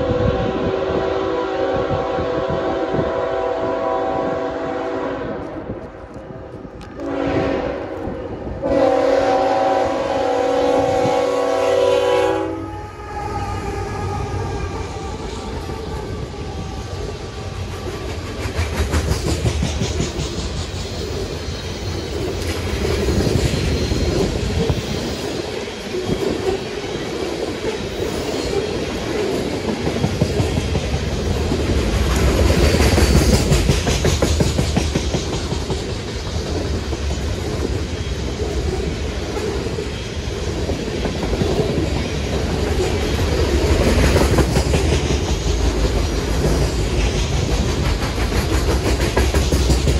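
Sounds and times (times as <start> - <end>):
freight train rolling past: 0.0 - 49.9.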